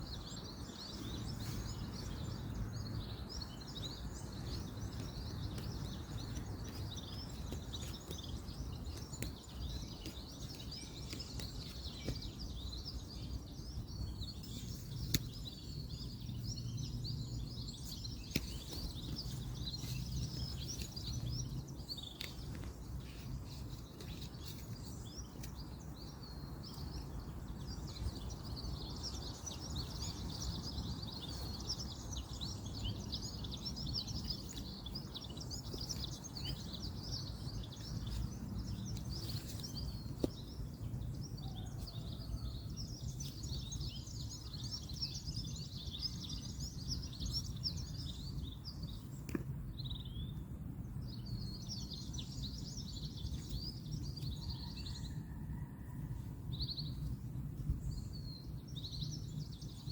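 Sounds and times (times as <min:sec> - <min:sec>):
birds chirping: 0:00.0 - 0:55.9, 0:56.5 - 0:59.9.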